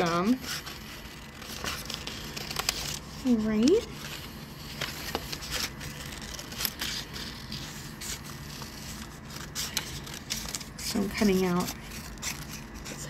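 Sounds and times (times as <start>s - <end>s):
paper rustling: 0.0s - 13.0s
scissors snipping paper: 0.0s - 13.0s.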